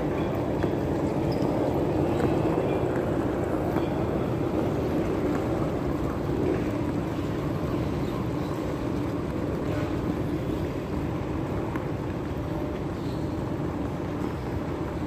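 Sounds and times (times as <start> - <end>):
terminal hall low rumble: 0.0 - 15.0.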